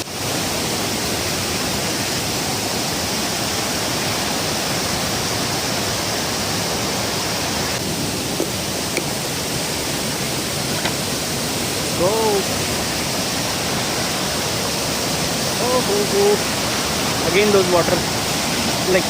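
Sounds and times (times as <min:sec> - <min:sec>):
water rushing over dam: 0:00.0 - 0:19.0.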